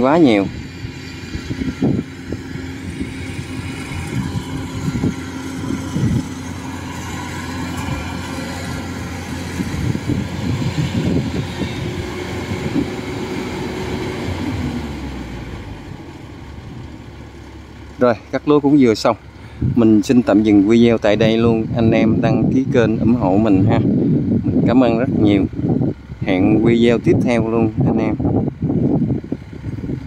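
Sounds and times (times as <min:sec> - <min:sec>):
combine harvester running: 0:00.0 - 0:30.0
low rumbles: 0:00.0 - 0:30.0.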